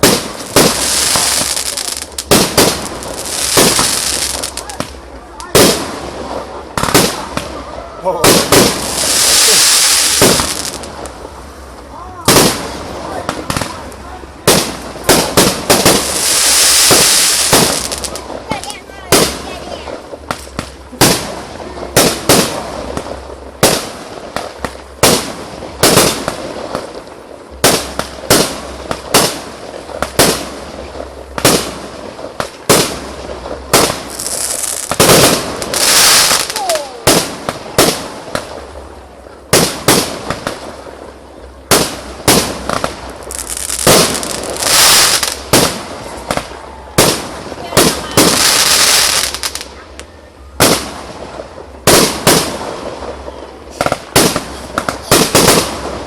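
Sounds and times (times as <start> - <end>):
fireworks bursting with bangs: 0.0 - 56.0.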